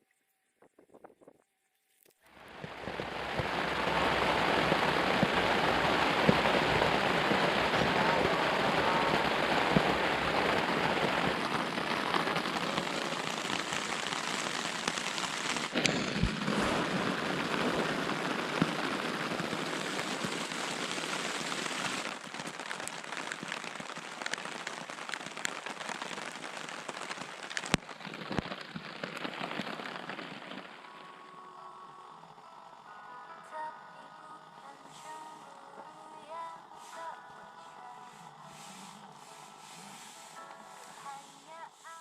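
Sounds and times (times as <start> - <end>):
heavy rain pouring: 2.3 - 42.0.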